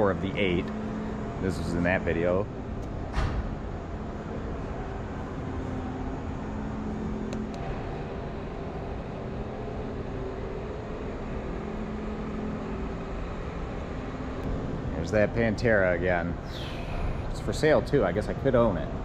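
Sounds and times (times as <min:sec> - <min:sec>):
faint steady drone: 0:00.0 - 0:19.0
ventilation hum: 0:00.0 - 0:19.0.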